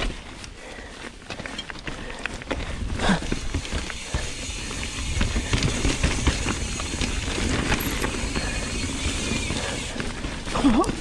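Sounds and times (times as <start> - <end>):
tyres crunching on dirt and stones: 1.1 - 11.0
bike rattling over rocks: 1.4 - 11.0.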